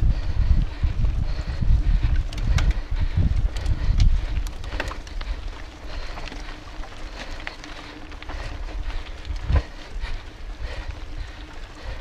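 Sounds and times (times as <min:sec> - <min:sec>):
bike rattling and clicking: 0:00.0 - 0:12.0
bike tyres rolling on dirt: 0:00.0 - 0:12.0
wind buffeting microphone: 0:00.0 - 0:12.0.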